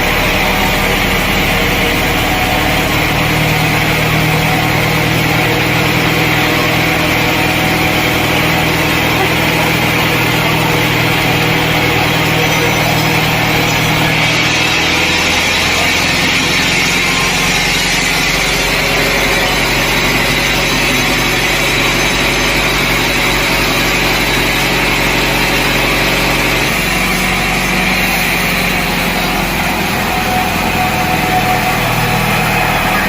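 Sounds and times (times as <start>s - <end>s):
small engine running machinery: 0.0s - 33.0s.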